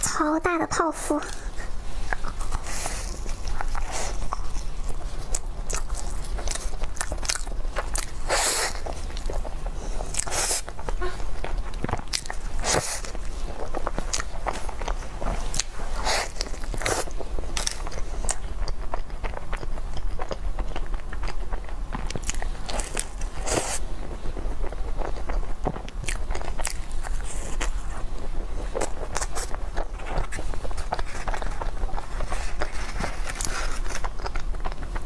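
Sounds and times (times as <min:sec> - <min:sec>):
crusty pastry crunching: 0:01.2 - 0:35.0.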